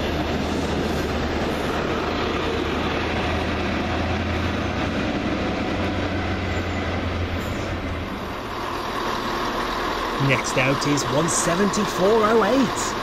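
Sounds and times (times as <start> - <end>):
diesel train engine hum: 0.0 - 13.0
rail rumble: 0.0 - 13.0.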